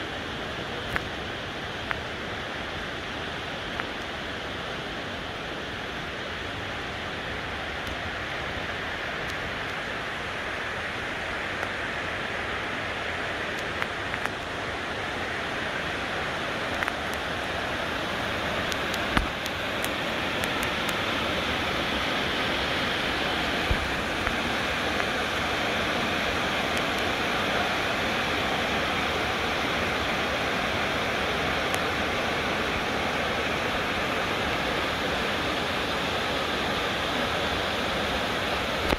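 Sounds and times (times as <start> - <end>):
waterfall and rocky stream: 0.0 - 38.9.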